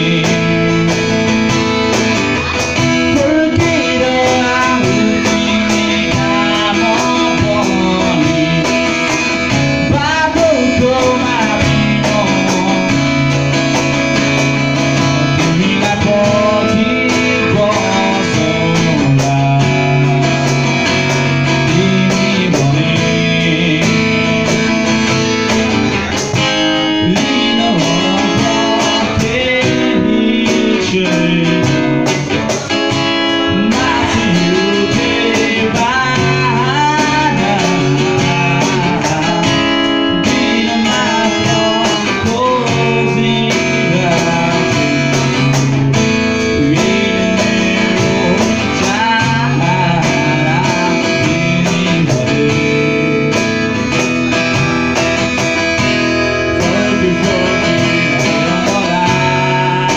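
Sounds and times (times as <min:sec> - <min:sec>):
acoustic guitar strumming: 0:00.0 - 0:59.9
cajon beat: 0:00.0 - 0:59.9
man singing: 0:00.0 - 0:59.9.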